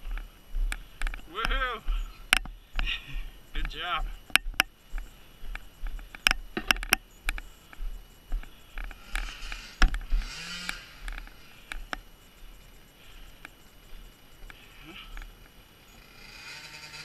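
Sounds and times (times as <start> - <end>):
dirt bike rattling on trail: 0.0 - 17.0.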